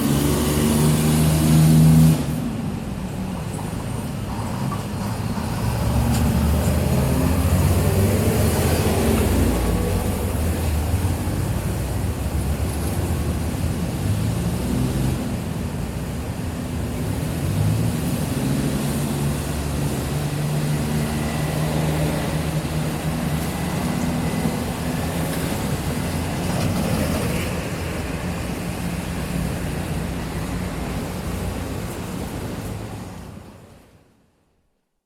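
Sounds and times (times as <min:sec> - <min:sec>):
vehicle engines: 0:00.0 - 0:34.4.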